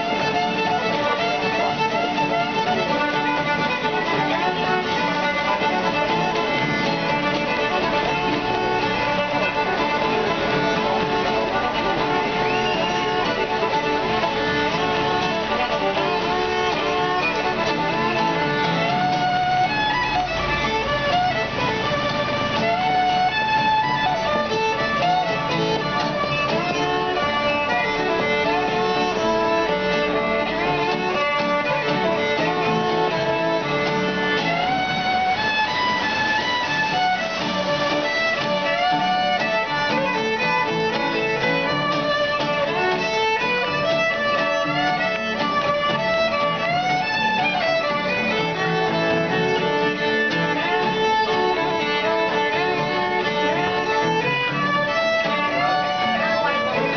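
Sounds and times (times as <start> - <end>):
acoustic guitar accompaniment: 0.0 - 56.9
fiddle melody with sliding notes: 0.0 - 56.9.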